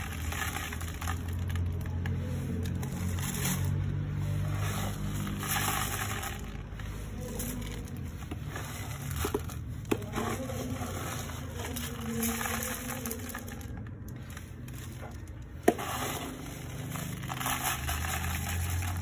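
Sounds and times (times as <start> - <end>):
scoop sifting cat litter: 0.0 - 19.0.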